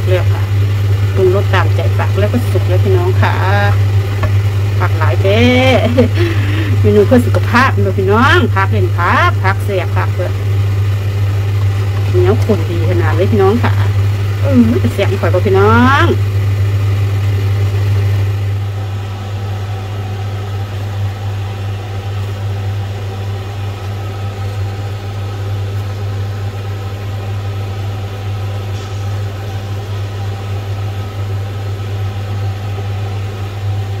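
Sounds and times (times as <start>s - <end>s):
stew simmering: 0.0s - 32.6s
low electric hum: 0.0s - 34.0s.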